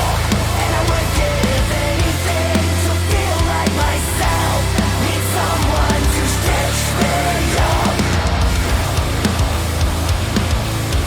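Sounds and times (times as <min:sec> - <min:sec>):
drum kit strokes: 0:00.0 - 0:11.0
heavy distorted guitars: 0:00.0 - 0:11.0
sustained low bass: 0:00.0 - 0:11.0.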